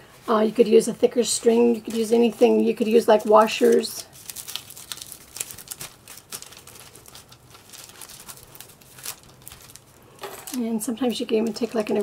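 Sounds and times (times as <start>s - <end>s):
aluminum foil crinkling: 0.2s - 12.0s.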